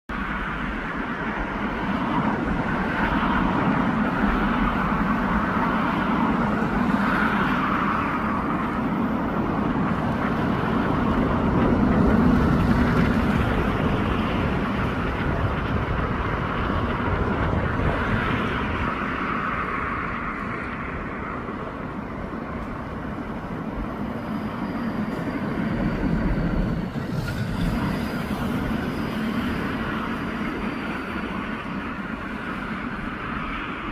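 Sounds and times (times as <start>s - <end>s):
road traffic noise: 0.1s - 33.9s.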